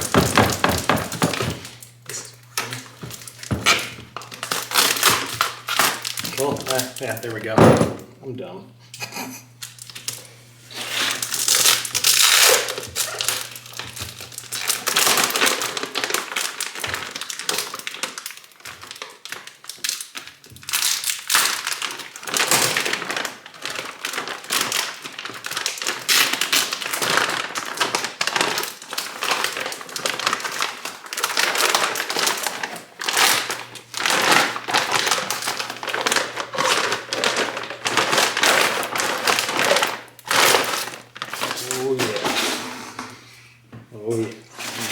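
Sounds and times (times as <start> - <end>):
packing material crinkling: 0.0 - 7.8, 9.5 - 42.6.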